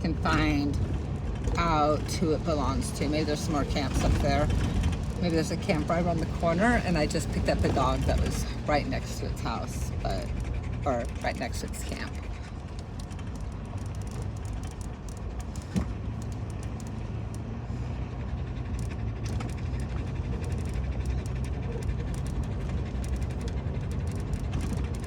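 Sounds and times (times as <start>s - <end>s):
vehicle cabin rumble: 0.0s - 25.0s.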